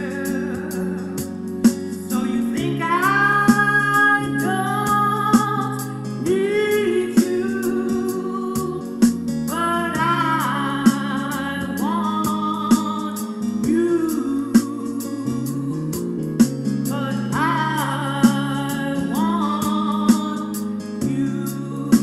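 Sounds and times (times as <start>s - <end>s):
backing music with slow beat: 0.0s - 22.0s
woman singing: 0.0s - 22.0s.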